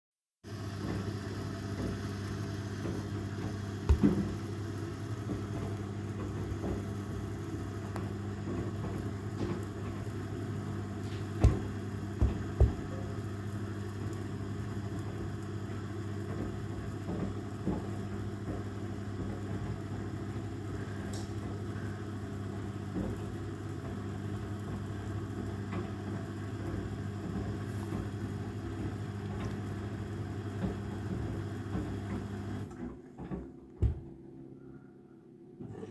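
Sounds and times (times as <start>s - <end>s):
washing machine humming: 0.4s - 35.9s.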